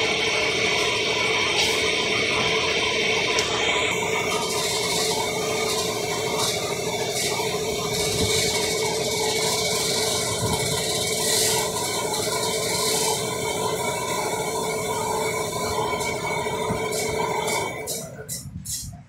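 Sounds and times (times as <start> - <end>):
machine hum: 0.0 - 18.7.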